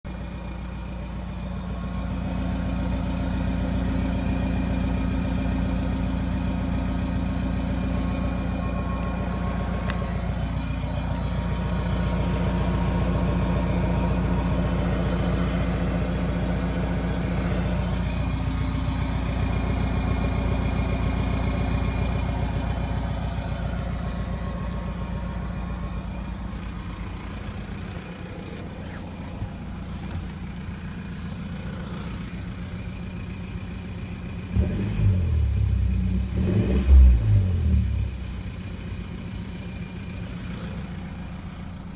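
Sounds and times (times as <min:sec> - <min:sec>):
diesel car exhaust note: 0:00.4 - 0:41.9.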